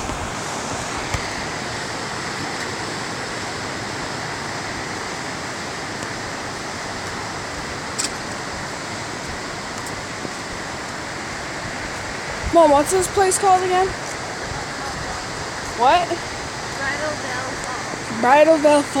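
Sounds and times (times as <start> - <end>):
white-water rapids rushing: 0.0 - 19.0.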